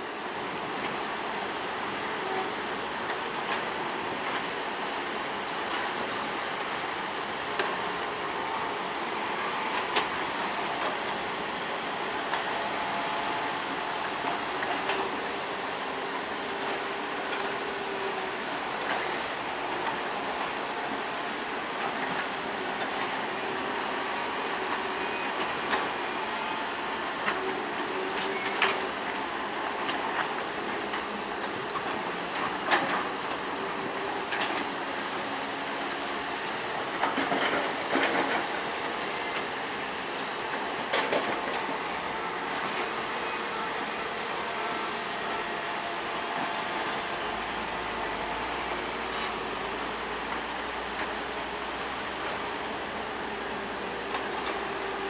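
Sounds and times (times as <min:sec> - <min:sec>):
high squeal of steel tracks: 0:00.0 - 0:55.0.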